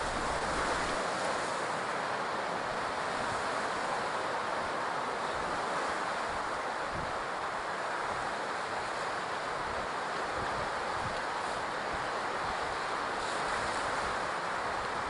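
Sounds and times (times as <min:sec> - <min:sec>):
ocean surf washing on shore: 0:00.0 - 0:15.0.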